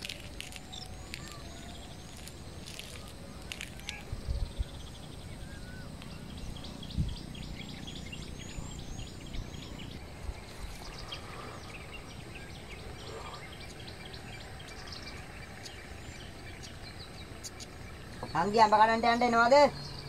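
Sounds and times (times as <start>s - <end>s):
birds chirping: 0.0s - 20.0s
low steady background noise: 0.0s - 20.0s.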